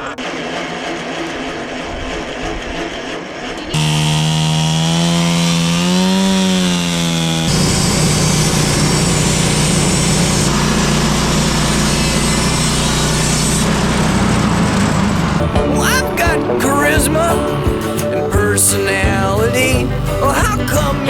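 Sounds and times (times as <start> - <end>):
saw blade cutting log: 0.0 - 18.9
sawmill engine running under load: 0.0 - 21.0.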